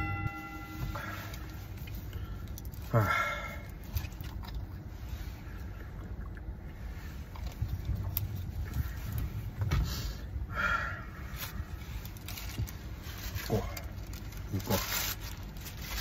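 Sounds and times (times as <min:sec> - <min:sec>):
low rumble inside a car: 0:00.0 - 0:16.0.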